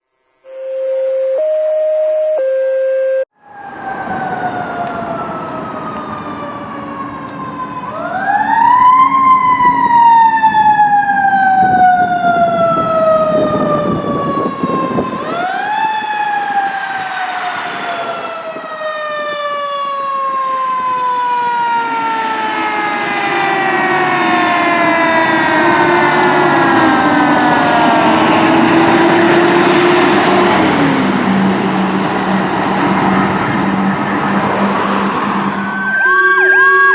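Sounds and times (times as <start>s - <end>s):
lower wavering siren tone: 0.4s - 30.8s, 35.4s - 36.9s
mechanical siren wailing: 0.4s - 36.9s.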